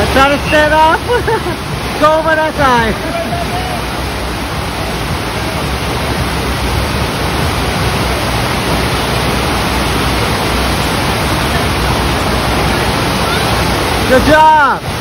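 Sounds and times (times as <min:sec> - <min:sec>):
loud rushing water: 0:00.0 - 0:15.0.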